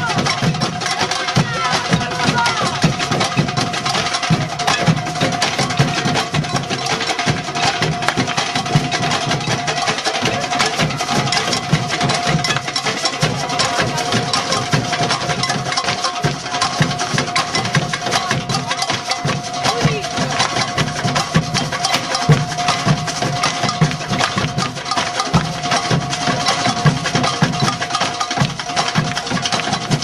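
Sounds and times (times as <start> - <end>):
drum strokes: 0.0 - 30.0
wood-block strokes: 0.0 - 30.0.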